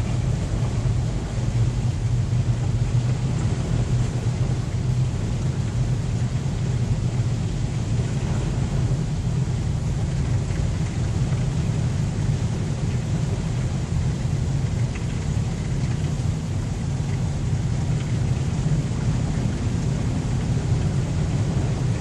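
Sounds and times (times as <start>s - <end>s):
car cabin rumble and hiss: 0.0s - 22.0s.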